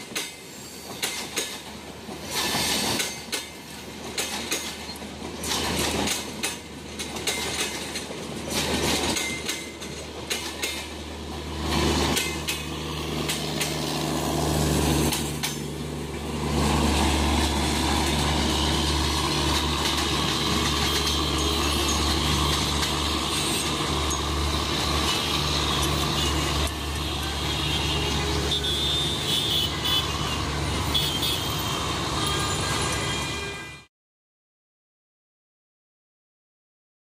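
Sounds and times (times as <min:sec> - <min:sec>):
train wheels on rails: 0:00.0 - 0:33.6.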